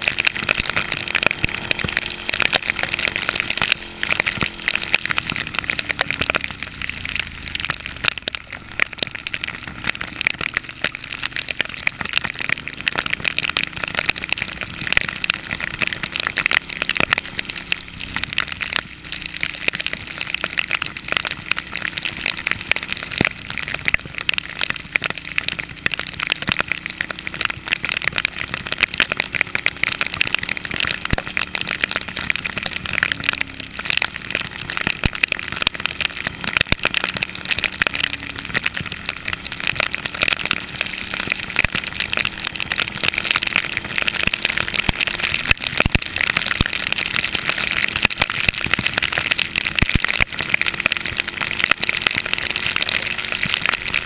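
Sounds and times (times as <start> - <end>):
motorcycle engine running: 0.0 - 54.0
rain tapping on camera: 0.0 - 54.0.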